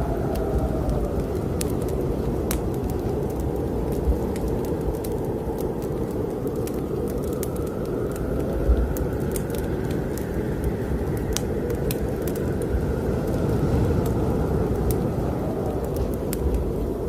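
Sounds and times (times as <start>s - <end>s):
fireplace fire crackling: 0.0s - 17.0s
snowstorm wind rumbling: 0.0s - 17.0s.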